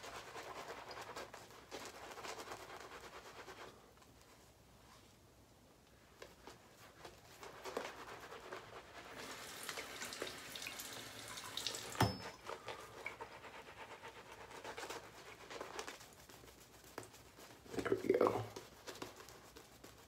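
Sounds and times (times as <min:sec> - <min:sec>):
shaving brush lathering skin: 0:00.0 - 0:03.8, 0:06.2 - 0:20.0.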